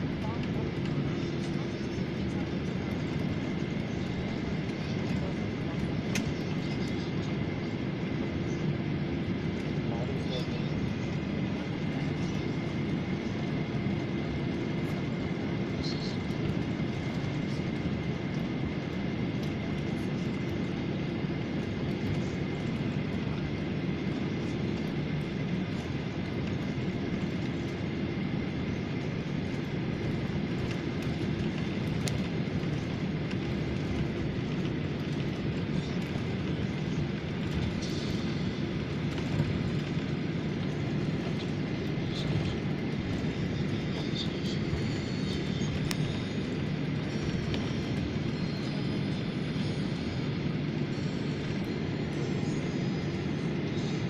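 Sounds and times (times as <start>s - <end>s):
jet engine cabin drone: 0.0s - 54.0s
thin steady whine: 0.0s - 54.0s.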